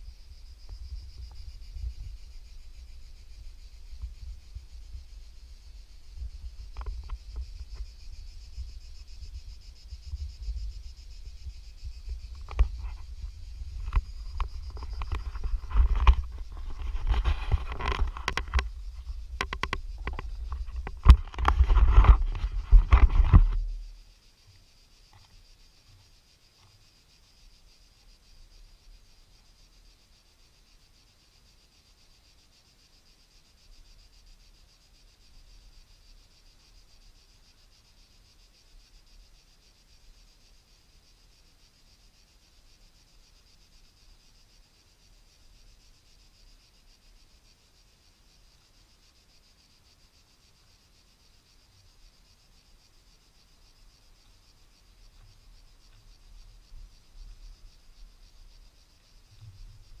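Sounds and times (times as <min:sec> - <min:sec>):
cicadas buzzing: 0:00.0 - 1:00.0.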